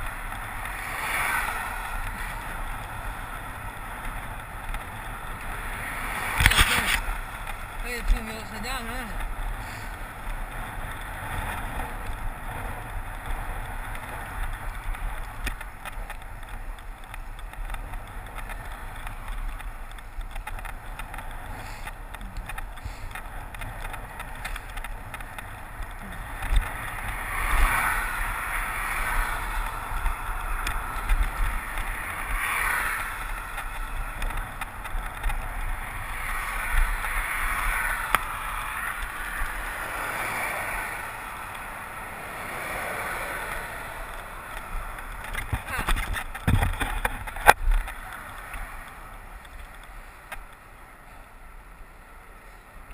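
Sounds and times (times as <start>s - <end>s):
wind rushing over microphone: 0.0s - 50.6s
bicycle tyre and road noise: 0.0s - 52.9s
vehicles passing: 0.0s - 52.9s.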